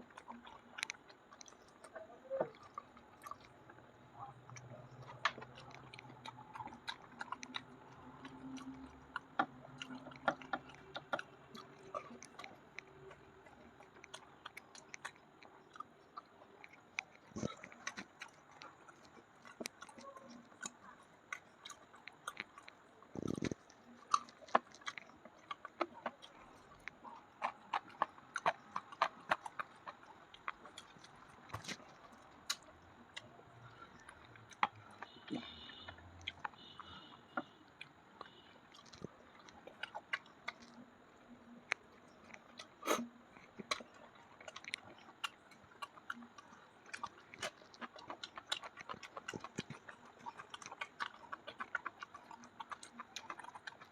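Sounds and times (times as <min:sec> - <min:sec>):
chewing and mouth sounds: 0:00.0 - 0:53.9.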